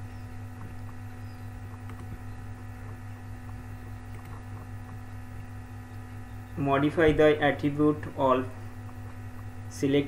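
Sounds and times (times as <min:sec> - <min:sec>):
mains hum: 0:00.0 - 0:10.0.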